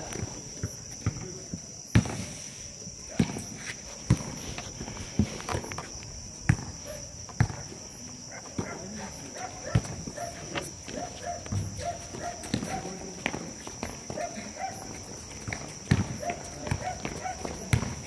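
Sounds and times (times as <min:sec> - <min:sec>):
crickets droning: 0:00.0 - 0:18.0.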